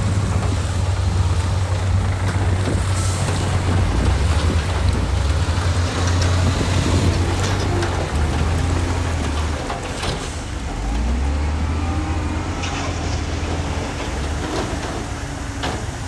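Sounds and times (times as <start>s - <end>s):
diesel machinery engine rumble: 0.0s - 16.0s.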